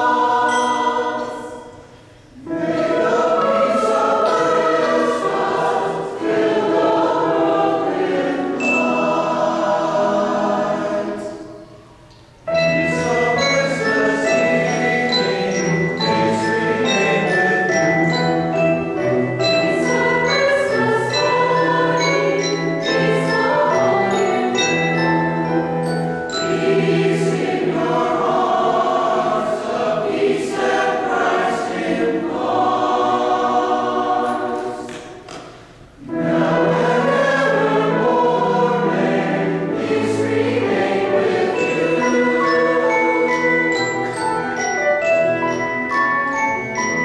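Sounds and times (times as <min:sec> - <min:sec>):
mixed choir singing: 0:00.0 - 0:11.8, 0:12.5 - 0:44.6
piano accompaniment: 0:00.0 - 0:35.3, 0:35.9 - 0:47.0.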